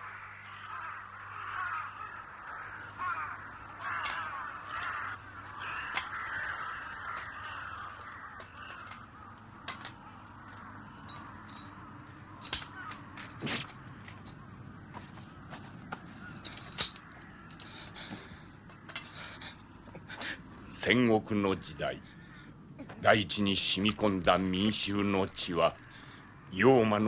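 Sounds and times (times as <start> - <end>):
crows cawing: 0.0 - 27.0.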